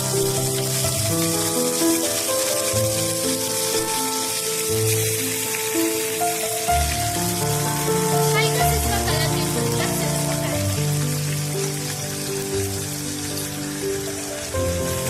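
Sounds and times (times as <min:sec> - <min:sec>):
background music of held notes: 0:00.0 - 0:15.0
chicken frying in oil: 0:00.0 - 0:15.0.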